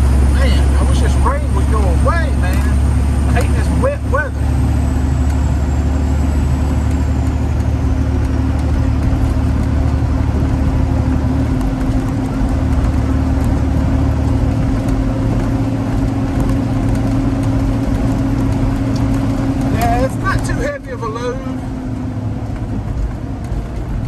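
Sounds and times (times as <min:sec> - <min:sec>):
diesel truck engine droning: 0:00.0 - 0:24.0.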